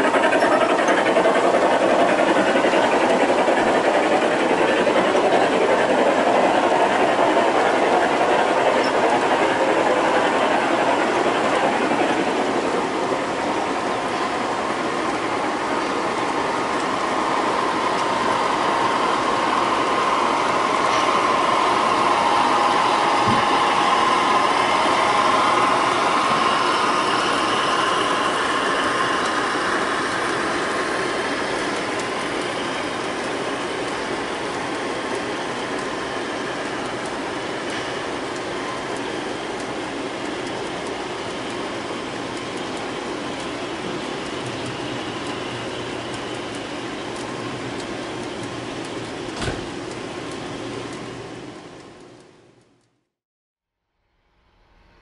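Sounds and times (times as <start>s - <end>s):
model train cars rolling on track: 0.0s - 52.6s.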